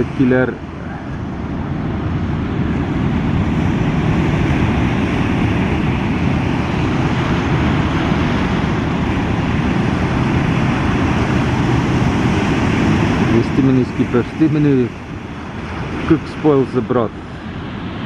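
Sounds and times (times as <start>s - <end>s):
surf breaking: 0.0s - 18.0s
wind rumbling on microphone: 0.0s - 18.0s.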